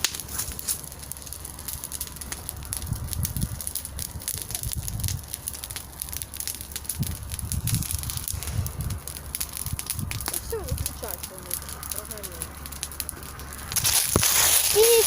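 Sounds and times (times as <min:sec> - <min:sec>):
bonfire crackling and popping: 0:00.0 - 0:15.0
low rumble: 0:00.0 - 0:15.0.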